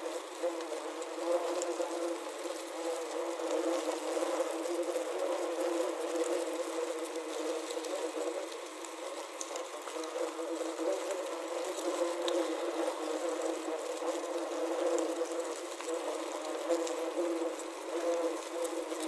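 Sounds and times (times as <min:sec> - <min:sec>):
faint ticks: 0:00.0 - 0:19.0
wasps buzzing: 0:00.0 - 0:19.0.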